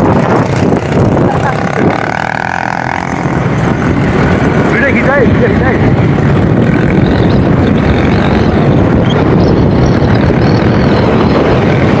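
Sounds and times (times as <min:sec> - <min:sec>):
dirt bike engine droning: 0:00.0 - 0:12.0.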